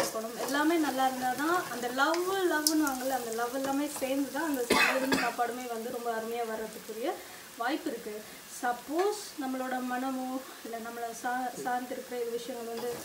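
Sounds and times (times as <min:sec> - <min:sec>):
spices sizzling in oil: 0:00.0 - 0:13.0.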